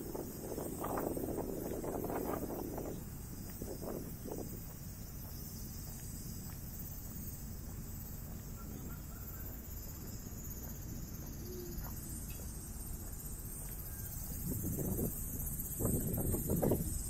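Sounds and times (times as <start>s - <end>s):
high-pitched hiss: 0.0s - 17.0s
low wind-like rumble: 0.0s - 17.0s.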